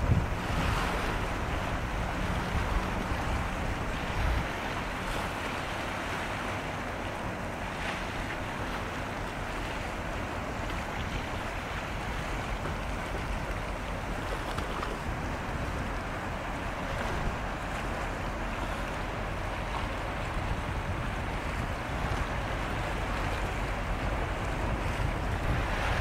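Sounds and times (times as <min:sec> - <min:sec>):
sea water rushing: 0:00.0 - 0:26.0.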